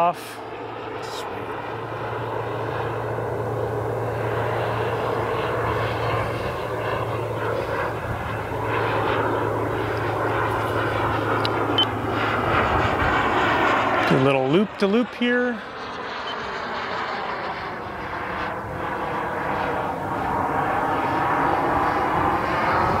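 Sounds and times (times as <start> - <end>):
jet engine rush overhead: 0.0 - 23.0.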